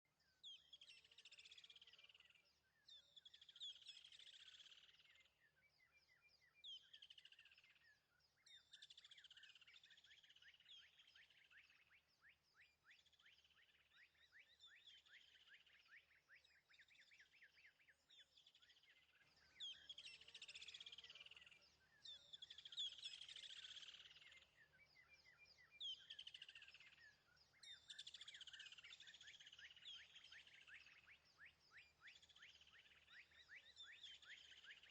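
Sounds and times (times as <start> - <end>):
faint birdsong with trills: 0.0 - 34.9.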